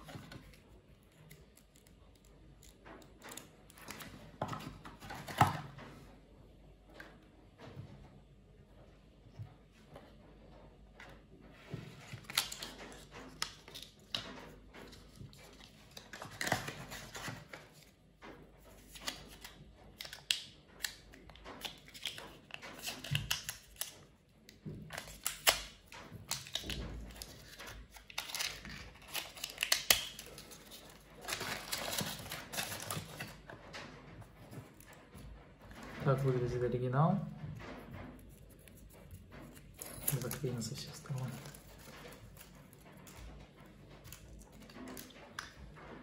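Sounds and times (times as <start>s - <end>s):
cardboard and plastic rustling: 0.0s - 6.2s, 11.5s - 36.9s, 37.5s - 46.0s.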